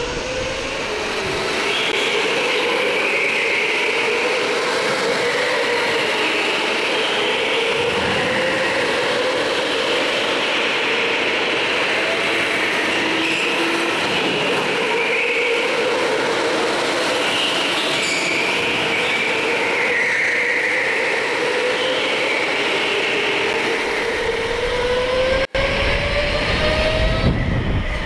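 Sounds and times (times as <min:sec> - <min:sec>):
go-kart engine running hard: 0:00.0 - 0:28.0.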